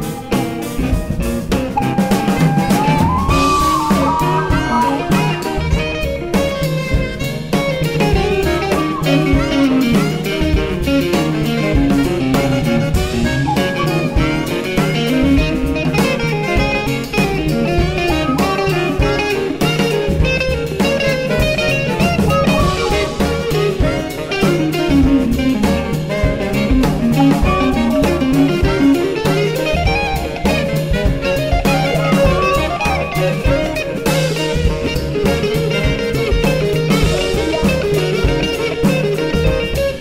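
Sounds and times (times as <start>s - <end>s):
drum kit keeping time: 0.0s - 40.0s
jazz band melody: 0.0s - 40.0s.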